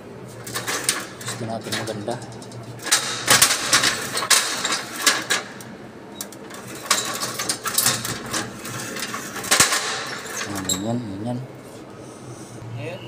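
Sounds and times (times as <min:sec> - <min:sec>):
metal ladder clattering: 0:00.4 - 0:11.0.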